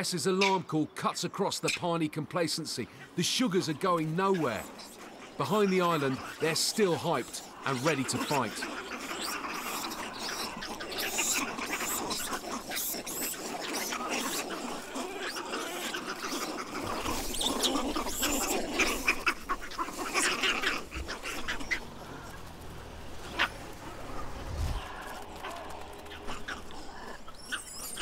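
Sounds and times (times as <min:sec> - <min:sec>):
monkeys crying sharply: 0:00.0 - 0:00.7, 0:02.8 - 0:22.4, 0:23.2 - 0:28.0.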